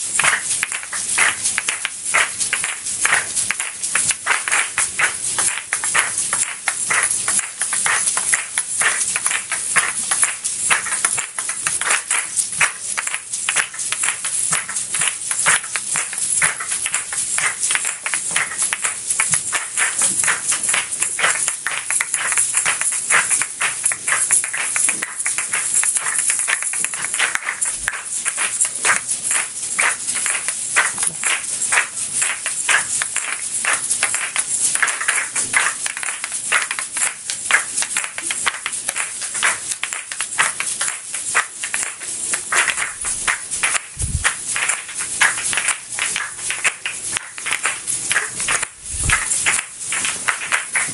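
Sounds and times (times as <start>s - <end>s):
shell shakers clacking and rattling: 0.0s - 50.9s.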